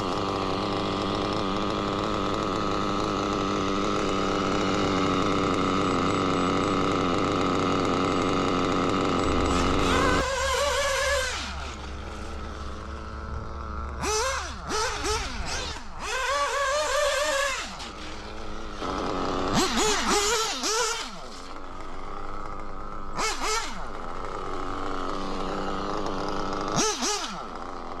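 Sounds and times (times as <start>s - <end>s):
model engine revving and idling: 0.0s - 28.0s.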